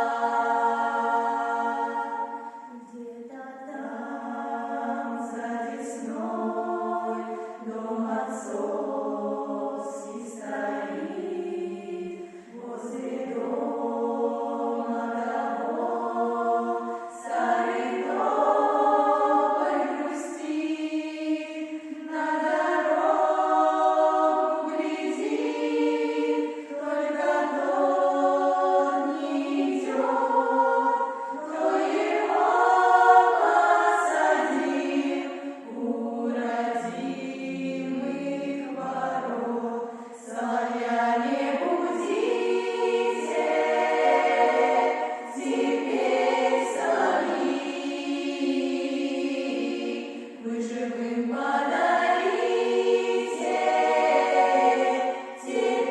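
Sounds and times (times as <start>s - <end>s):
choir singing held chords: 0.0s - 55.9s.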